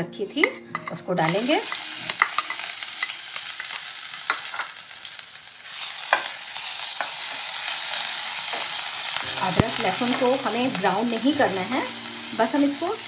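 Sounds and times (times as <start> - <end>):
garlic sizzling in hot oil: 1.2 - 13.0.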